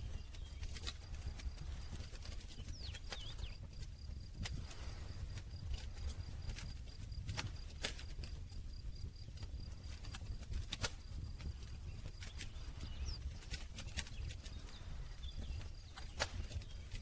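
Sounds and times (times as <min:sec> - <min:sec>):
campfire crackling and popping: 0:00.0 - 0:17.0
low rumble of flames: 0:00.0 - 0:17.0.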